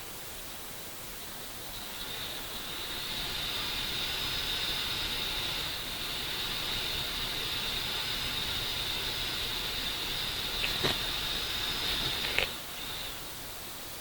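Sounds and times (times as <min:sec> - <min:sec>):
steady whistling hiss: 0:00.0 - 0:14.0.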